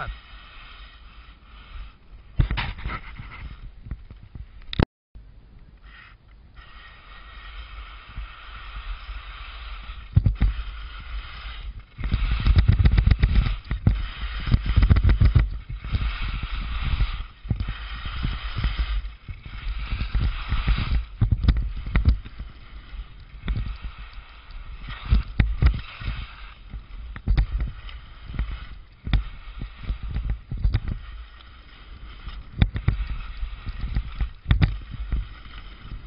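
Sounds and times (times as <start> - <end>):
skis scraping over snow: 0.0 - 3.8, 5.9 - 36.0.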